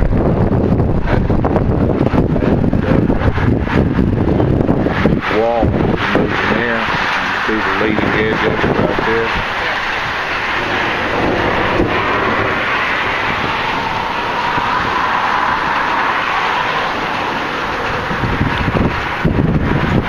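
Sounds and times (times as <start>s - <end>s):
wind and rain rushing: 0.0s - 20.0s.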